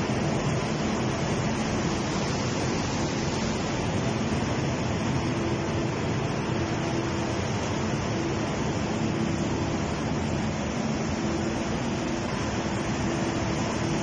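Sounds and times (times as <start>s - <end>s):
generator running: 0.0s - 14.0s.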